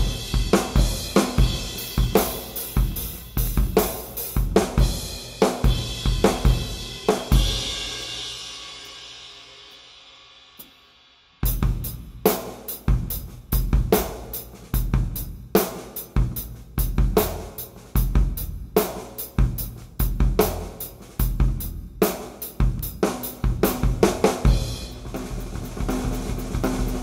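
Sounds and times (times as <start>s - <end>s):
drum kit playing: 0.0s - 9.8s, 11.4s - 27.0s.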